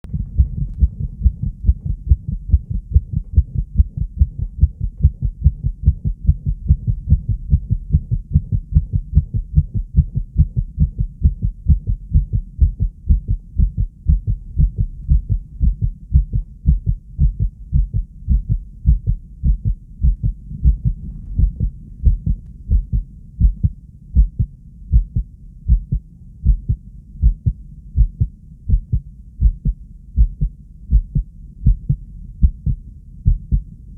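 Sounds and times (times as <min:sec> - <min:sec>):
heart beating fast: 0:00.0 - 0:33.7.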